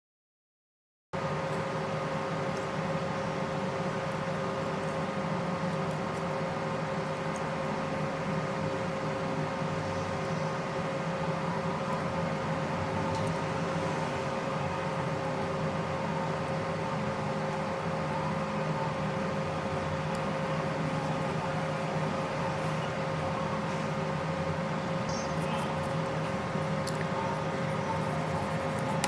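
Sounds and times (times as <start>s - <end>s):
small electric fan whirring: 1.2s - 29.0s.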